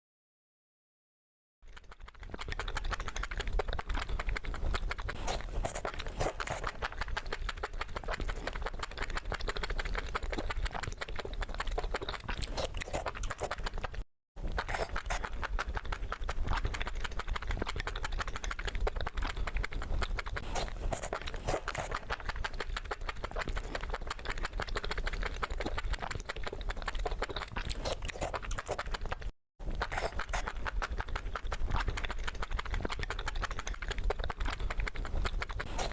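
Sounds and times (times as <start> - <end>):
crunching and chewing: 1.7 - 35.9.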